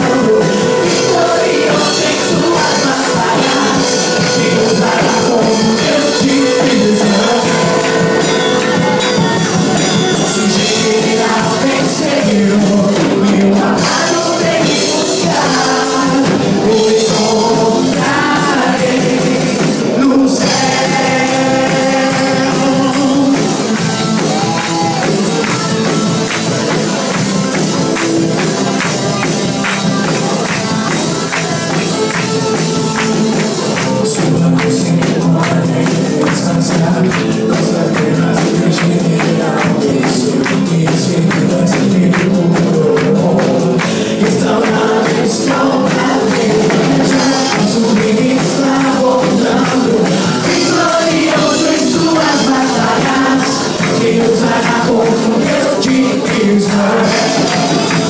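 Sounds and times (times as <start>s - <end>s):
live band playing upbeat song: 0.0s - 58.0s
person singing: 0.0s - 58.0s.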